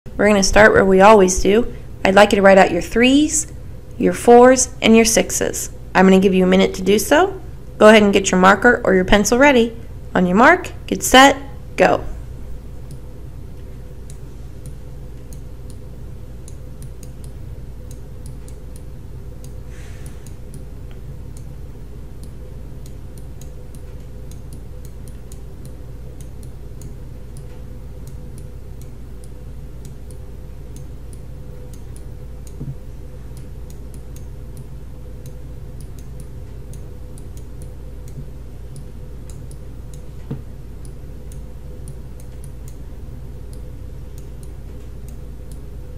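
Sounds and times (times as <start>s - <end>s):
low electrical hum: 0.1s - 45.9s.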